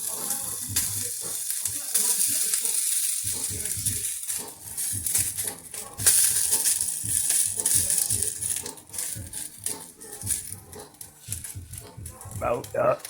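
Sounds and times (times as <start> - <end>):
sausages sizzling in a frying pan: 0.0 - 13.0.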